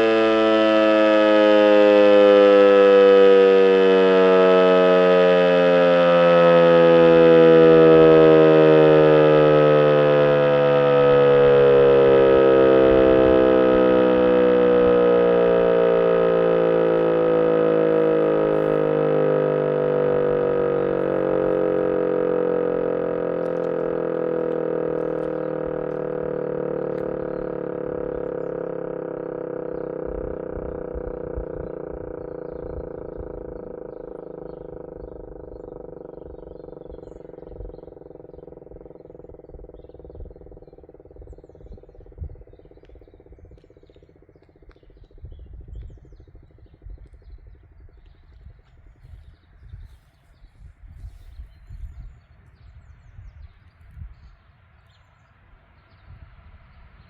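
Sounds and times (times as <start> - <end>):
electric siren winding down: 0.0 - 50.1.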